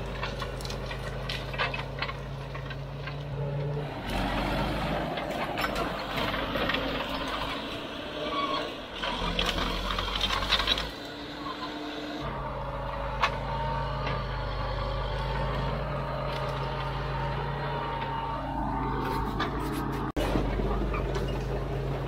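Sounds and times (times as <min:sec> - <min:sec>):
bulldozer diesel engine under load: 0:00.0 - 0:22.0.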